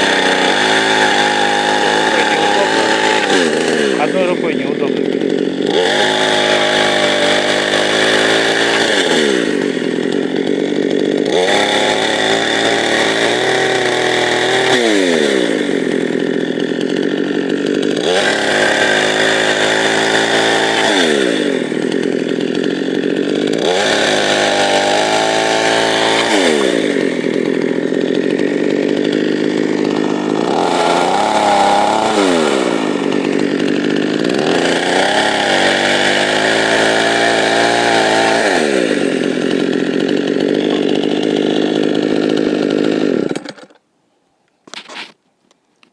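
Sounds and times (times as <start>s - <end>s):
chainsaw revving: 0.0s - 43.8s.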